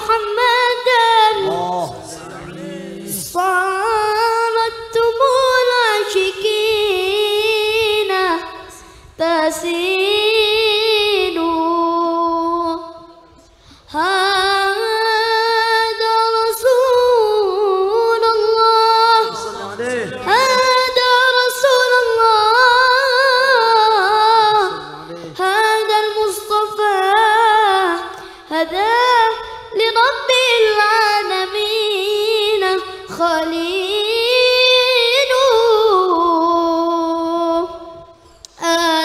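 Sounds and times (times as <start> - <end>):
boy singing unaccompanied: 0.0 - 13.2, 13.9 - 37.9, 38.6 - 39.0.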